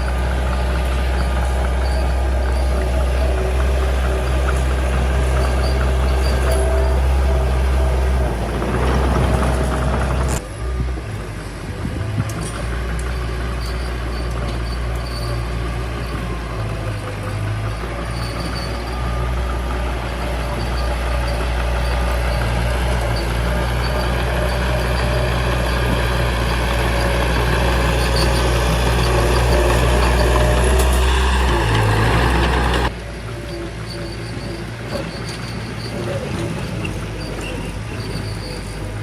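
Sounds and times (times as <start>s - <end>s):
bulldozer diesel engine droning: 0.0s - 39.0s.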